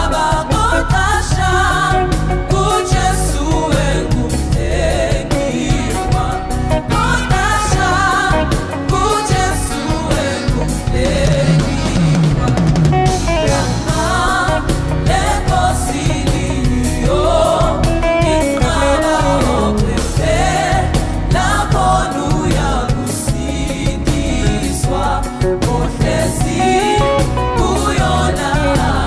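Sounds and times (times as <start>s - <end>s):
drum kit beat: 0.0s - 29.0s
gospel choir singing: 0.0s - 29.0s
keyboard: 0.0s - 29.0s.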